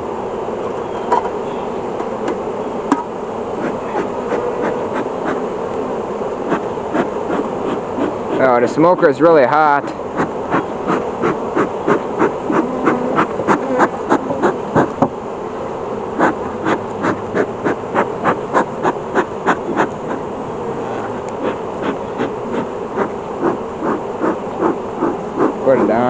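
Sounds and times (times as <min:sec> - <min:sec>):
honeybees buzzing: 0:00.0 - 0:26.0
bee smoker bellows puffing: 0:00.2 - 0:26.0.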